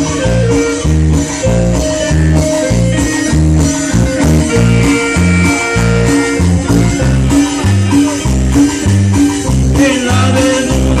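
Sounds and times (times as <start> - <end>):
plucked guitar melody: 0.0 - 11.0
rhythmic bass line: 0.0 - 11.0.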